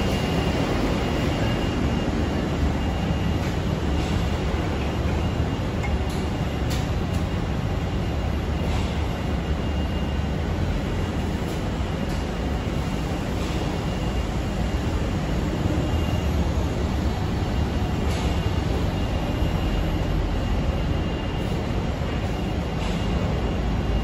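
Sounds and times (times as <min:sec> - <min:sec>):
machinery low rumble: 0:00.0 - 0:24.0.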